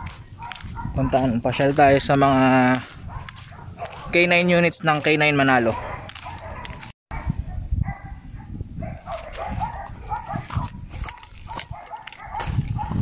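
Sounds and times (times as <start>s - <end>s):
dogs barking and yelping: 0.0s - 1.7s, 2.9s - 4.3s, 5.4s - 13.0s.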